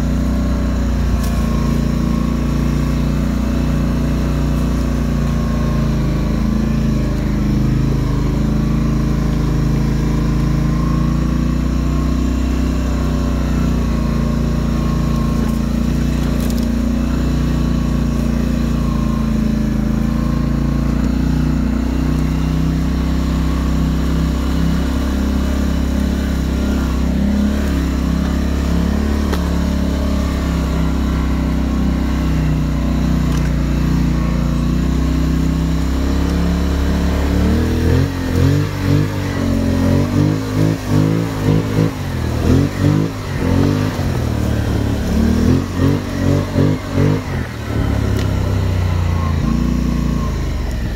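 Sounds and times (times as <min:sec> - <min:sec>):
atv engine running: 0:00.0 - 0:50.9.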